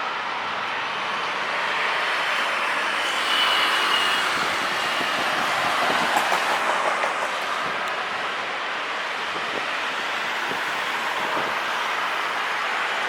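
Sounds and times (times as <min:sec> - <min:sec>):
jet engine rumble on takeoff: 0:00.0 - 0:13.0.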